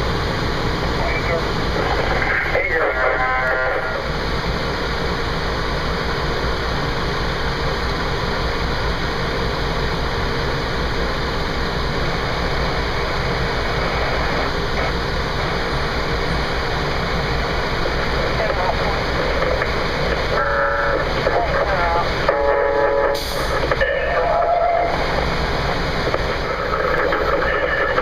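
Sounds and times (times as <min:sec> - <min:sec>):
fire engine engine running: 0:00.0 - 0:28.0.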